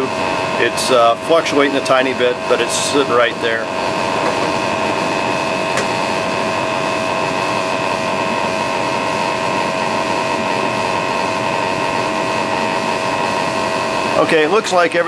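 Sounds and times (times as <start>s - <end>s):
gas furnace running: 0.0s - 15.0s
sample pump whine: 0.0s - 15.0s.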